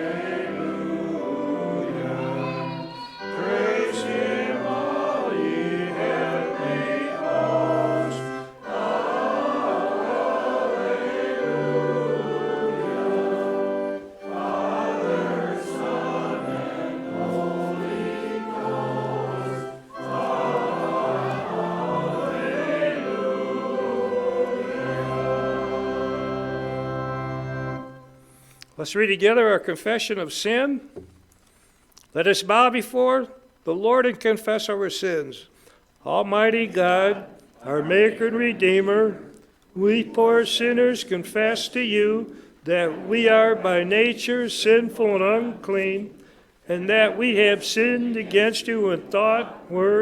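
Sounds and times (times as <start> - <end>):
choir singing a hymn: 0.0 - 28.2, 36.1 - 50.0.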